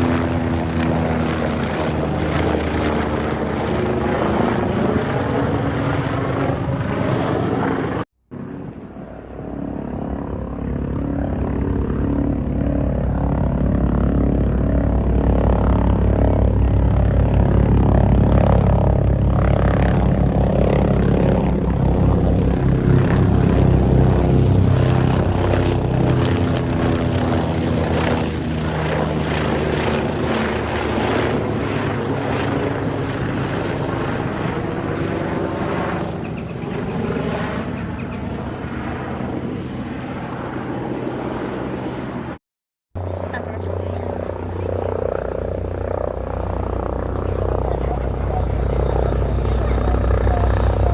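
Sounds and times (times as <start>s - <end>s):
aircraft engine and propeller: 0.0s - 42.4s, 43.0s - 50.9s.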